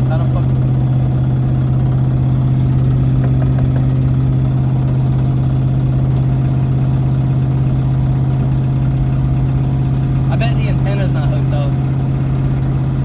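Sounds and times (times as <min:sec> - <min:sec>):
car engine drone from cabin: 0:00.0 - 0:13.0.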